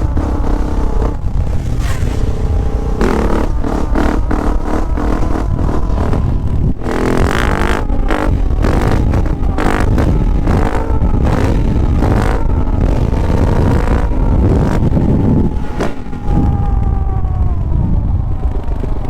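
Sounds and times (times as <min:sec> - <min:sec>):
motocross engine revving: 0:00.0 - 0:16.4.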